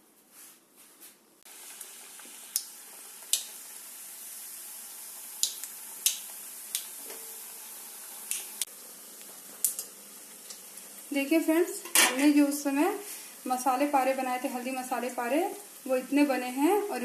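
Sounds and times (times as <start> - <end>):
dough deep-frying in oil: 1.4 - 17.0.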